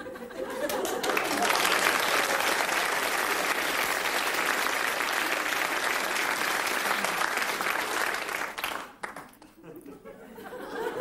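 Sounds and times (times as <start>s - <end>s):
audience applauding: 0.5s - 9.6s.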